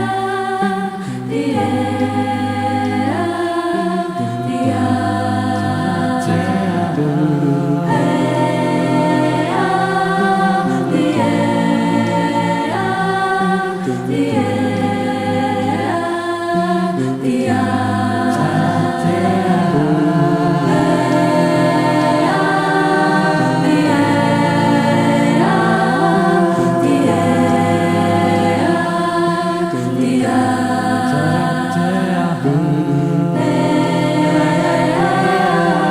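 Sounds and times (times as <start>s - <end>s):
a cappella group singing: 0.0s - 35.9s.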